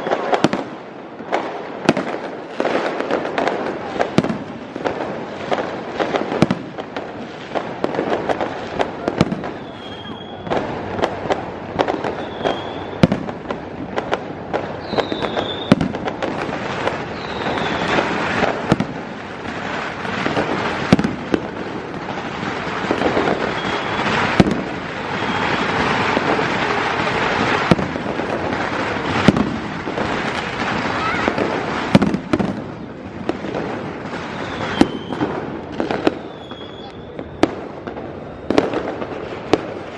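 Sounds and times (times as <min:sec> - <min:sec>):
fireworks bangs: 0:00.0 - 0:39.9
fireworks crackling: 0:00.0 - 0:39.9
fireworks whistles: 0:00.0 - 0:39.9.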